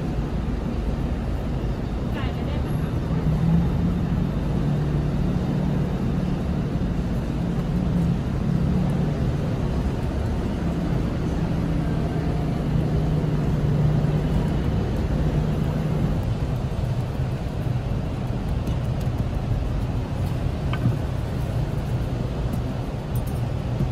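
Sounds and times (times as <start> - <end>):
constant rumble: 0.0 - 23.9
low mechanical hum: 0.0 - 23.9.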